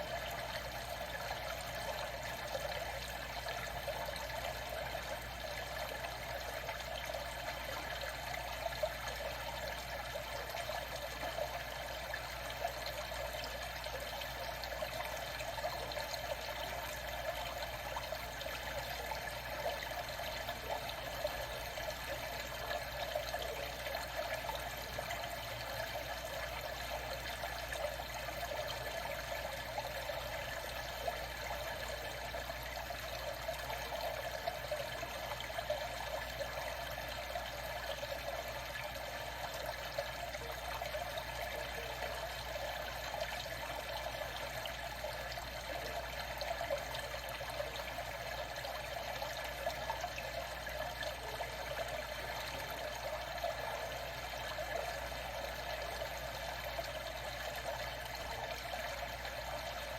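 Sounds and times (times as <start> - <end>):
moving water: 0.0 - 59.9.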